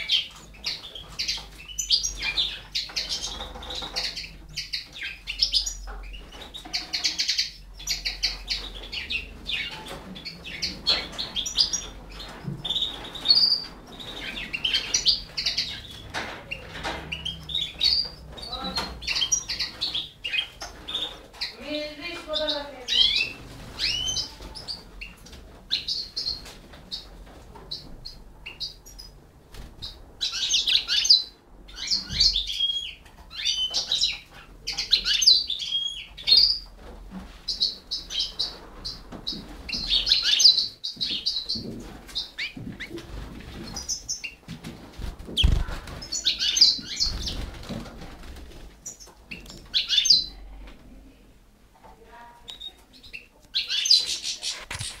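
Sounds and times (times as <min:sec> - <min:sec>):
chicks chirping: 0:00.0 - 0:50.4, 0:52.3 - 0:55.0.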